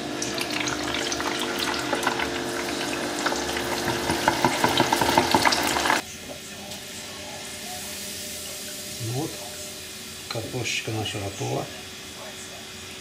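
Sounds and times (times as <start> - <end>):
oil sizzling and bubbling: 0.0 - 13.0.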